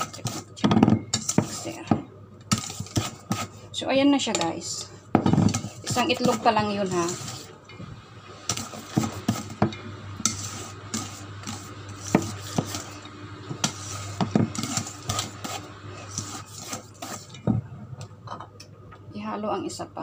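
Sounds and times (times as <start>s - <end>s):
utensil beating dough in metal bowl: 0.0s - 7.6s, 8.4s - 17.5s.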